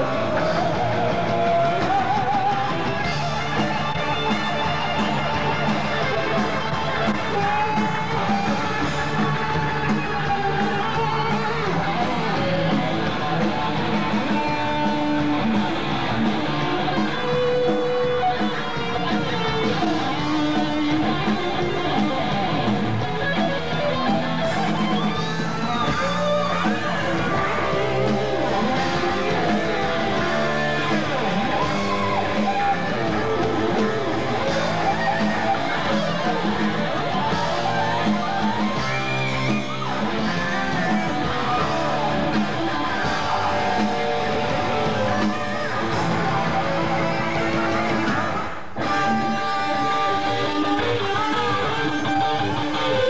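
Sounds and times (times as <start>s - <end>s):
electric guitar lead with bends: 0.0s - 53.0s
heavy metal band playing live: 0.0s - 53.0s.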